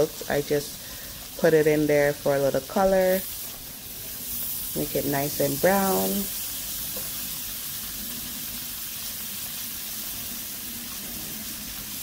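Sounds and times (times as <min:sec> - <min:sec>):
sausage sizzling in butter: 0:00.0 - 0:12.0.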